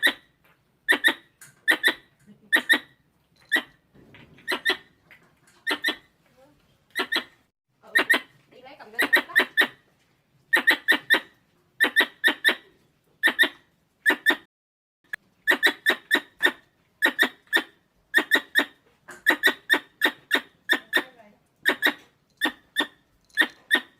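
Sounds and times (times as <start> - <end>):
squirrel squeaky chirps: 0.0 - 3.8, 4.4 - 5.0, 5.6 - 6.2, 6.9 - 9.8, 10.5 - 14.5, 15.4 - 23.9.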